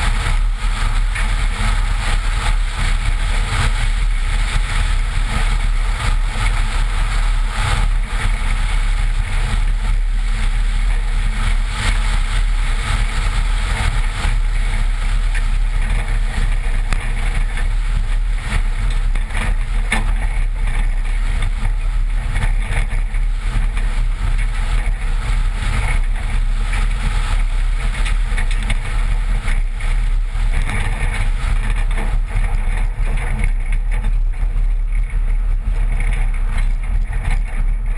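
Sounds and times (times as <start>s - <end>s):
tyres rumbling on gravel: 0.0s - 37.9s
wind buffeting microphone: 0.0s - 37.9s.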